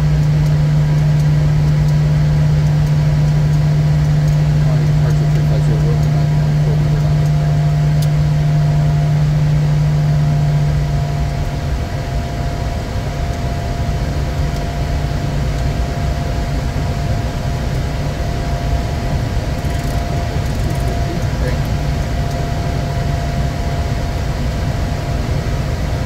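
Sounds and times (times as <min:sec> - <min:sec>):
faint steady whine: 0:00.0 - 0:26.0
jet cabin engine and airflow noise: 0:00.0 - 0:26.0
strong low hum: 0:00.0 - 0:26.0.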